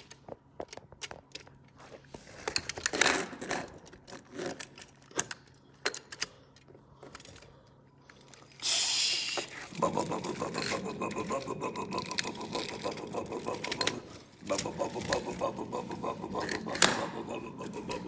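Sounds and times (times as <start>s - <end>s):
toy trucks clicking and rattling: 2.2s - 18.0s.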